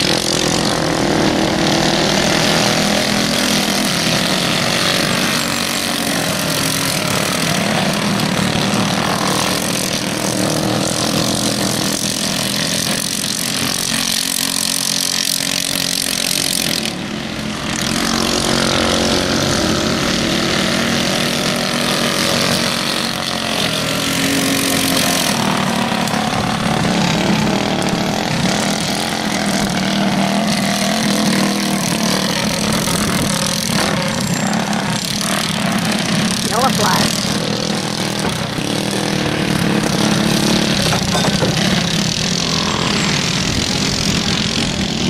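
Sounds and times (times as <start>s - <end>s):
go-kart engines racing: 0.0s - 45.0s.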